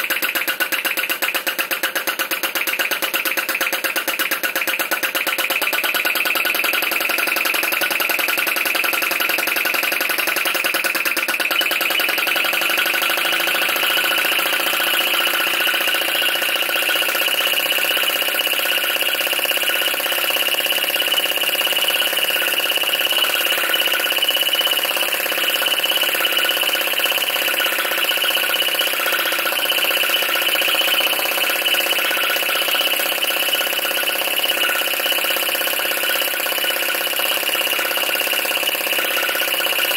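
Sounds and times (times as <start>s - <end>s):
small engine mechanical clatter: 0.0s - 39.9s.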